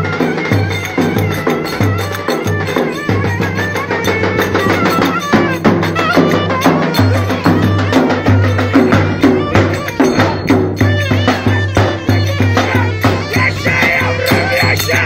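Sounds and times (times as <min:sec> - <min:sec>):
steady drum beat: 0:00.0 - 0:15.0
wavering folk melody: 0:00.0 - 0:15.0.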